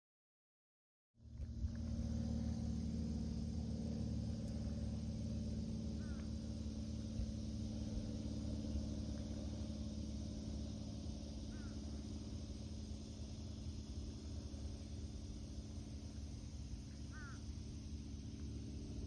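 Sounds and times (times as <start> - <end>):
motor humming with low rumble: 1.2 - 19.0.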